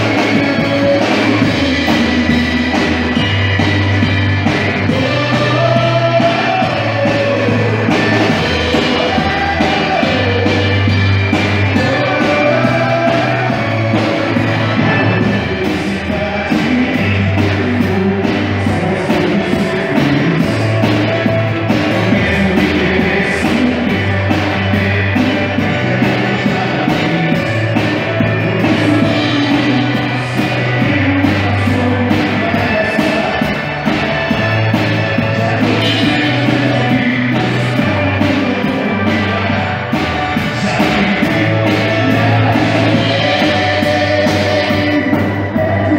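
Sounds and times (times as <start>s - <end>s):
bass line and beat: 0.0s - 45.9s
person singing: 0.0s - 45.9s.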